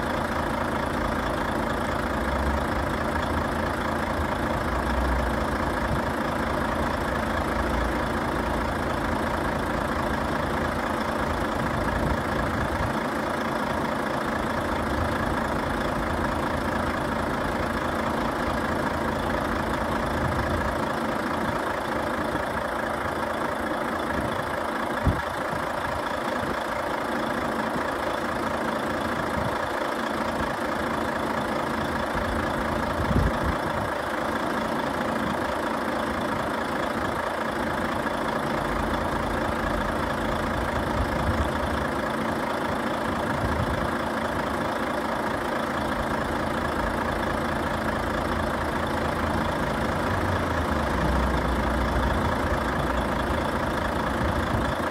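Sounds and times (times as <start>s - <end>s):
diesel truck idling: 0.0s - 54.9s.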